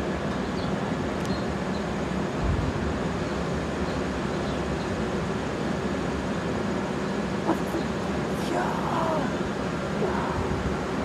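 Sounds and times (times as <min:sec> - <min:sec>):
rail traffic rumble and hiss: 0:00.0 - 0:11.0.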